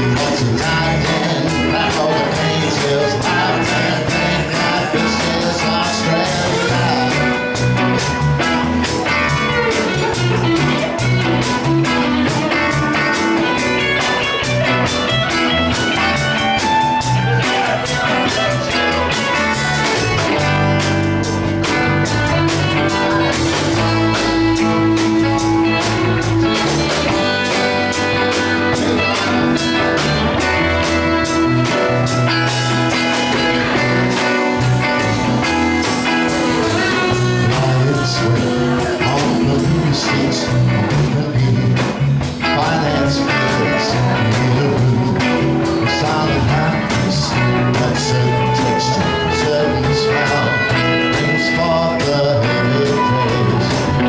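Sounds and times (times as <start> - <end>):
bass line: 0.0 - 54.0
guitar playing: 0.0 - 54.0.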